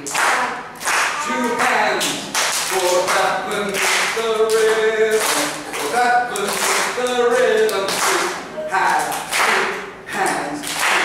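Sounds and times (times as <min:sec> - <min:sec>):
group singing unaccompanied: 0:00.0 - 0:11.0
hands clapping along: 0:00.0 - 0:11.0.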